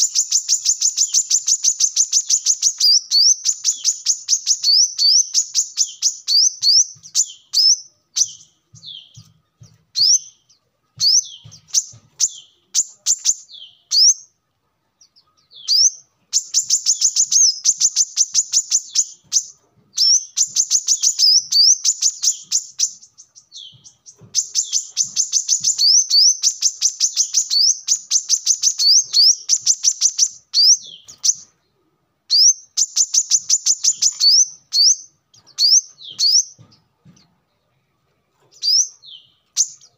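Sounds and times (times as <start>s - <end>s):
bird singing high chirps: 0.0s - 14.4s, 15.0s - 37.2s, 38.5s - 39.9s.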